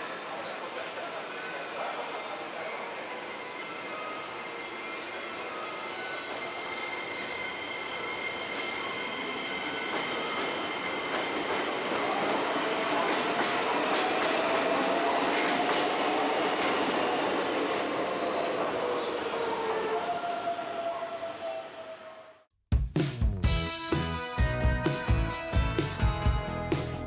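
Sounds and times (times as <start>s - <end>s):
electric train wheel and rail noise: 0.0s - 22.4s
train whine sliding in pitch: 0.0s - 22.5s.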